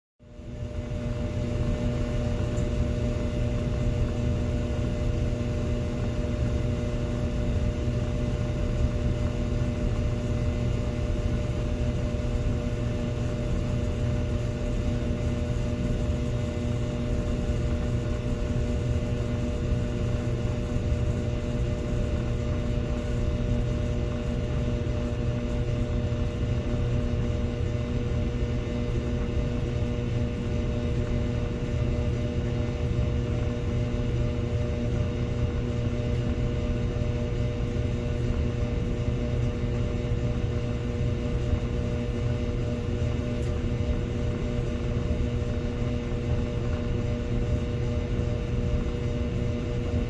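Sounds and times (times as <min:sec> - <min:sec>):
laundry dryer running: 0:00.2 - 0:50.0.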